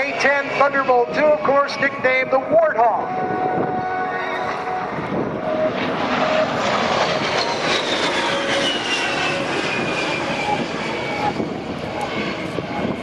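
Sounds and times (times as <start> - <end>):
aircraft flying past: 0.0 - 13.0.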